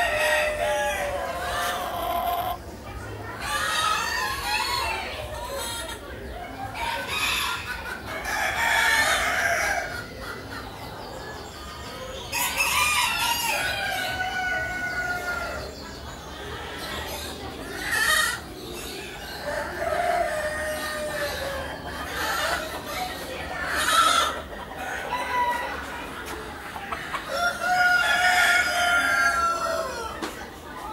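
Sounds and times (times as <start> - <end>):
roosters crowing: 0.0 - 2.6, 3.4 - 10.2, 12.3 - 15.9, 17.2 - 30.3
hens clucking: 0.0 - 30.9.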